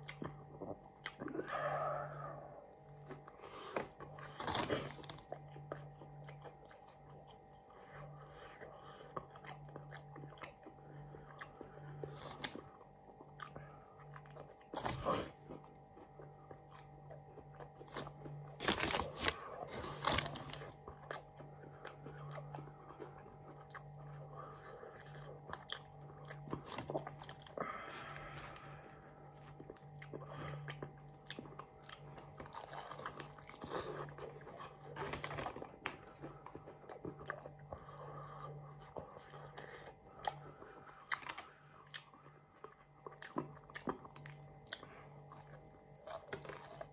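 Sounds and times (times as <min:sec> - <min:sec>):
chewing crunchy food: 0:00.0 - 0:46.9
faint steady hum: 0:00.0 - 0:46.9.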